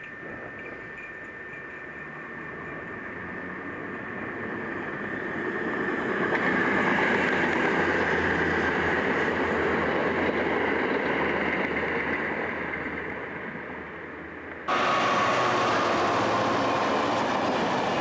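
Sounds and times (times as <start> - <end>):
train passing at speed: 1.6 - 18.0.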